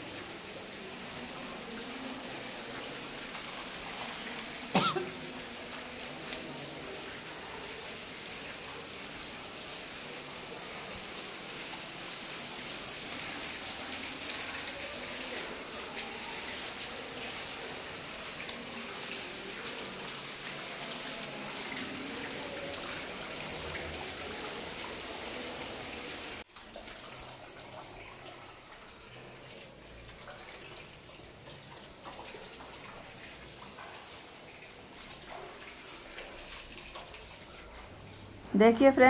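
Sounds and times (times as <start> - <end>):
water running from a tap: 0.0 - 39.0.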